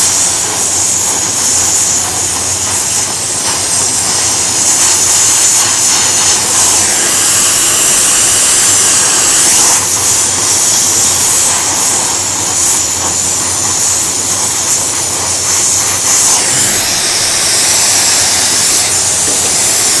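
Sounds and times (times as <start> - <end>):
welding torch flame hissing: 0.0 - 20.0.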